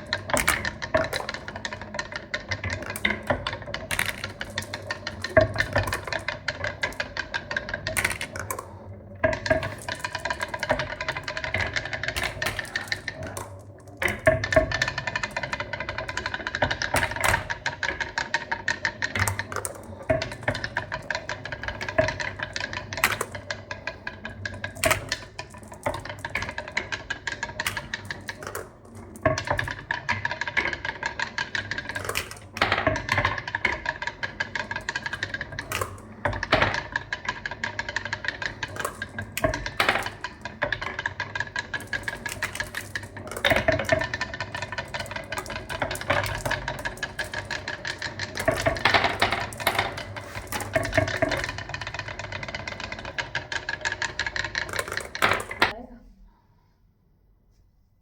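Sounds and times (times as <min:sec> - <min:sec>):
marbles clattering down a track: 0:00.0 - 0:55.8
marbles rolling rumble: 0:00.0 - 0:55.8.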